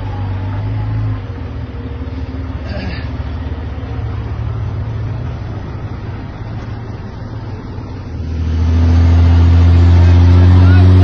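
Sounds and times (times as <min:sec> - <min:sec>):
vehicle engines droning: 0:00.0 - 0:11.0.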